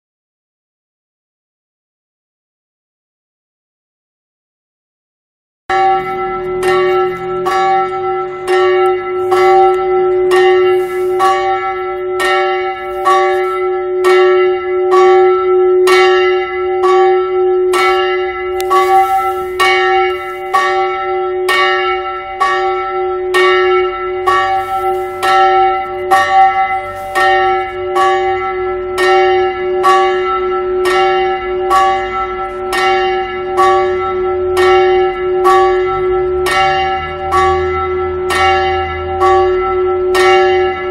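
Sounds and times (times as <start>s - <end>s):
church bell ringing: 5.7s - 40.9s.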